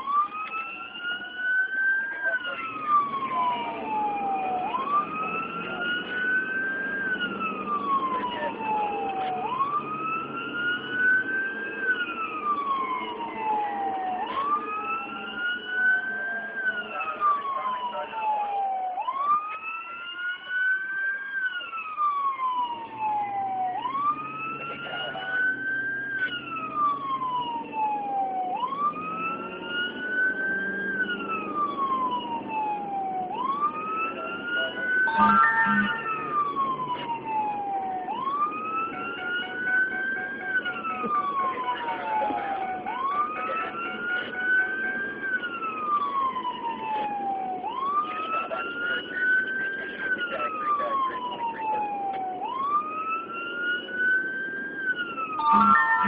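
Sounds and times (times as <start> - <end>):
vehicle rumble: 0.0 - 18.4, 19.0 - 56.0
emergency siren wailing: 0.0 - 56.0.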